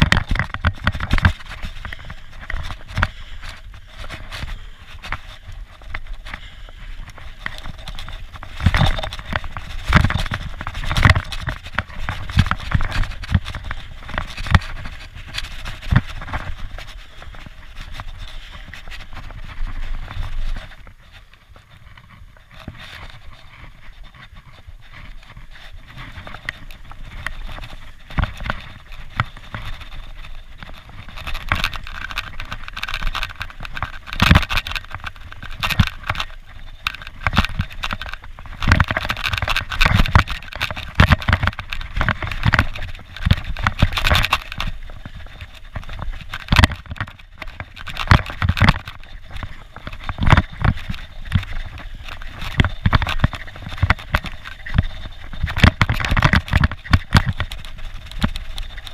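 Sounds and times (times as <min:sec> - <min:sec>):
bike clattering over bumps: 0:00.0 - 0:21.0, 0:22.0 - 0:58.9
bike tyres rolling over dirt: 0:00.0 - 0:58.9.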